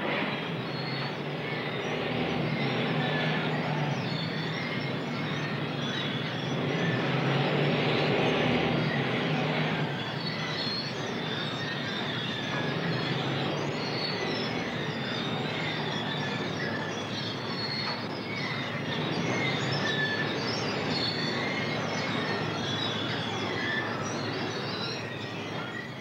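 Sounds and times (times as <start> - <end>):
high metallic squeals: 0.0 - 26.0.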